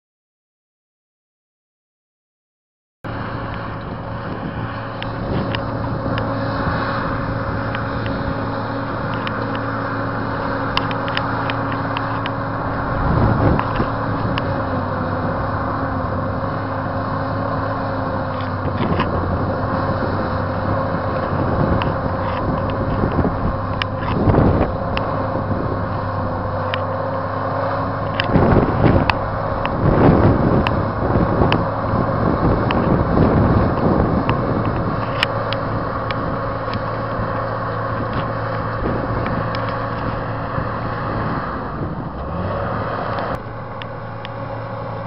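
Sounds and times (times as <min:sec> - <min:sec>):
bulldozer diesel engine running: 0:03.1 - 0:45.0
tracks clanking: 0:03.1 - 0:45.0
wind buffeting microphone: 0:03.1 - 0:45.0.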